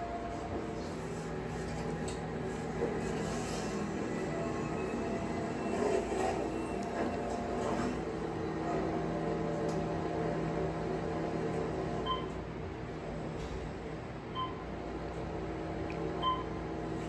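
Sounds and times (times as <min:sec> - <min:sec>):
elevator hum: 0:00.0 - 0:17.0.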